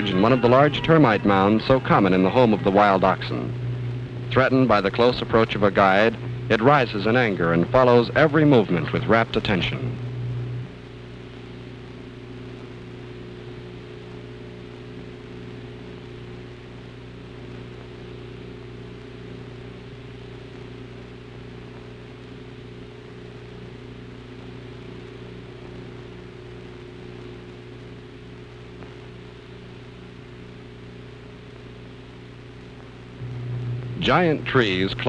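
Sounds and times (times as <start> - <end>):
film soundtrack hiss and hum: 0.0 - 35.0.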